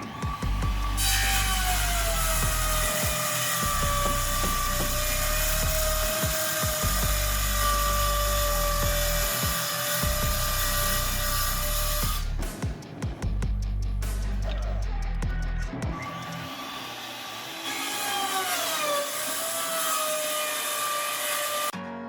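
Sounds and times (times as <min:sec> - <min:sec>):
power tool motor whining: 0:00.0 - 0:12.2, 0:16.0 - 0:21.7
background music: 0:00.0 - 0:22.0.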